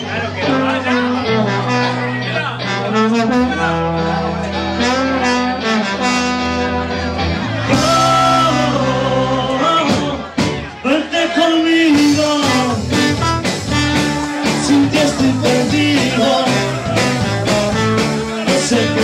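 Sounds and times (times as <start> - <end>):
live band playing: 0.0 - 19.0
trombone: 0.4 - 10.1, 12.0 - 19.0.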